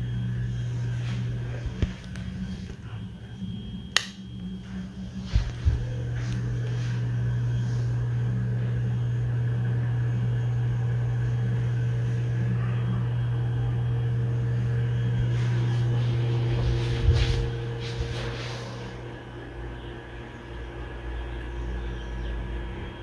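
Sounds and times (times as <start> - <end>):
ceiling fan motor hum: 0.0 - 23.0.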